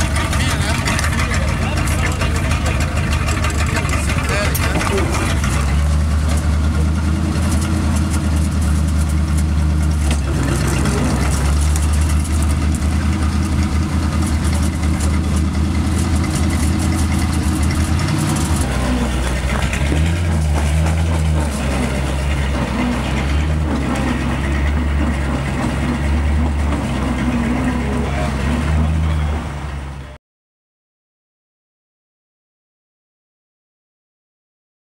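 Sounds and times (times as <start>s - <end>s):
engine running at low revs: 0.0s - 30.2s.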